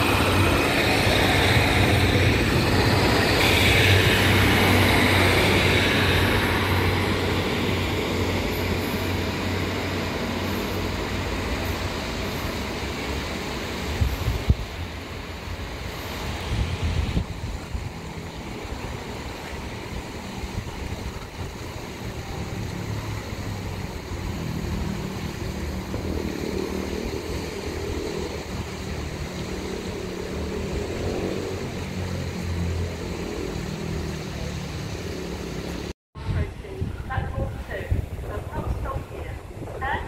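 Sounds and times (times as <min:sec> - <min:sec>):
diesel train engine drone: 0:00.0 - 0:40.0
wind: 0:00.0 - 0:40.0.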